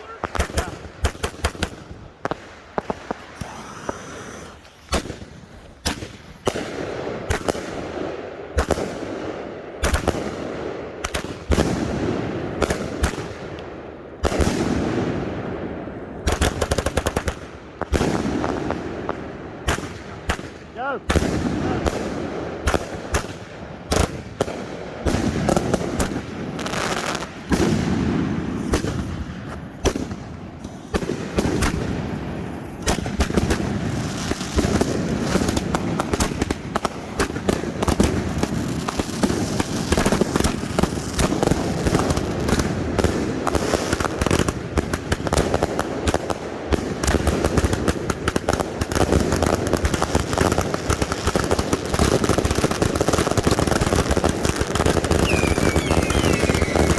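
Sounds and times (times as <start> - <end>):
fireworks banging and crackling: 0.0 - 56.9.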